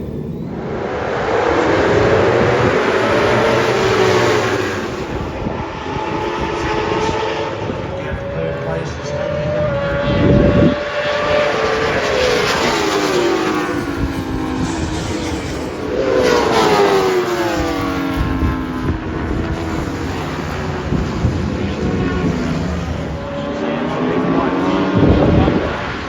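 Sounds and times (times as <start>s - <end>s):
racing motorcycles passing: 0.0s - 26.0s.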